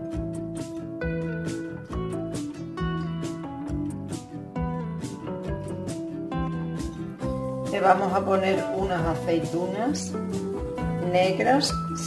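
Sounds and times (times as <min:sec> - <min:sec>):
light instrumental music with beat: 0:00.0 - 0:12.0.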